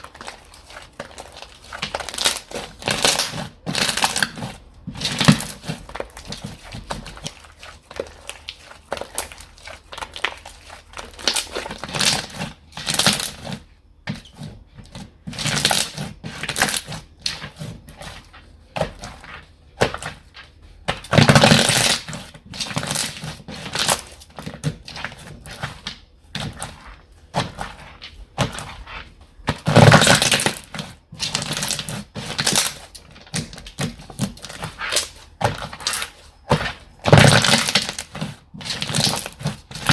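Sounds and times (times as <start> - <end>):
hands squishing slime: 0.0 - 39.9
loud slime squelches: 0.0 - 39.9.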